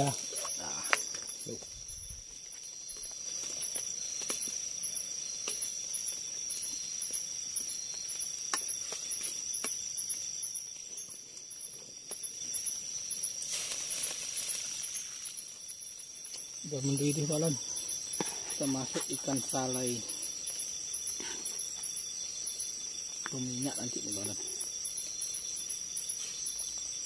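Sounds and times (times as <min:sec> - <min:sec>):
night insects whining and chirping: 0:00.0 - 0:27.0.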